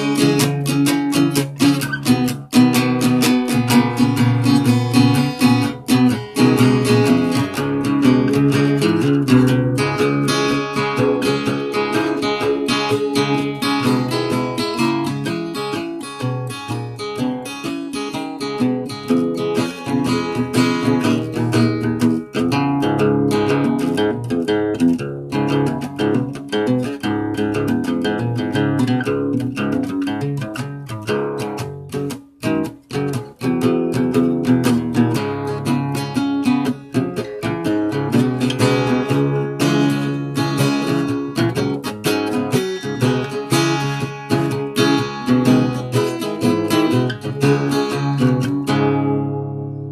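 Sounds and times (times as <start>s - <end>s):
guitar chords strummed and picked: 0.0s - 49.9s.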